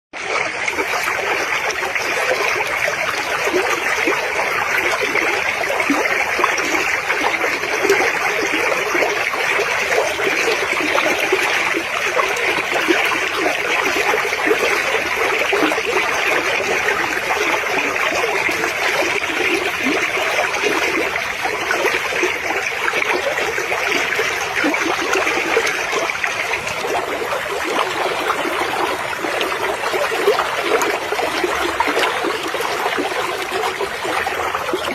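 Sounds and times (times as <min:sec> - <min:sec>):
stream flowing: 0:00.2 - 0:34.9.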